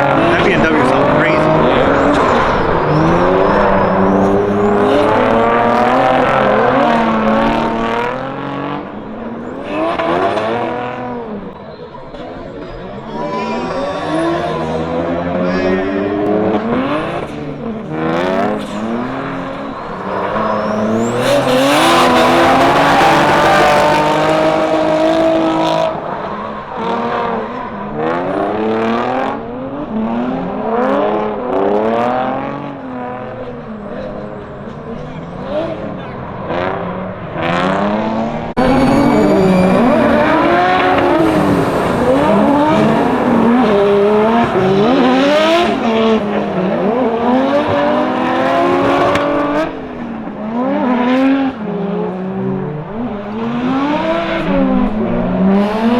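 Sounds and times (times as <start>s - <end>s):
tire squeal: 0.0s - 29.7s, 33.4s - 50.1s, 53.0s - 55.9s
car engines revving: 0.0s - 55.9s.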